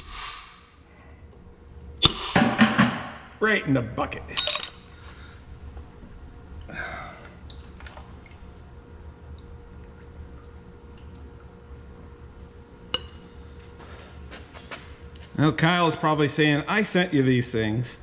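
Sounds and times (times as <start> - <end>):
low shop hum: 0.0 - 18.0.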